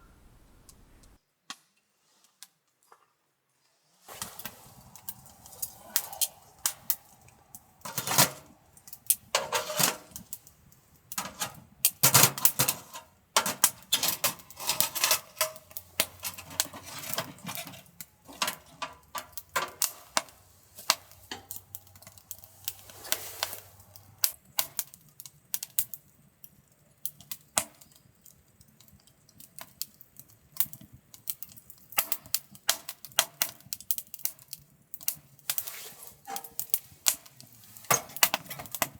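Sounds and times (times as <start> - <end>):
wood fire crackling and popping: 4.1 - 38.9.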